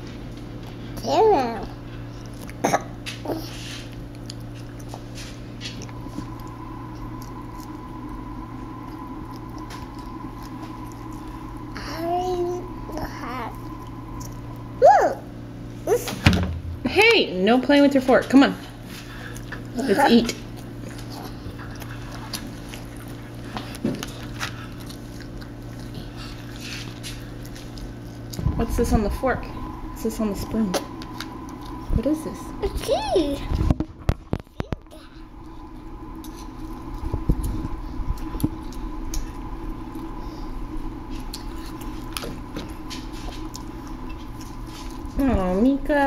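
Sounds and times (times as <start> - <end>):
steady low hum: 0.0 - 46.0
child chewing: 0.1 - 14.8, 18.8 - 28.5, 30.7 - 31.9, 32.6 - 45.2.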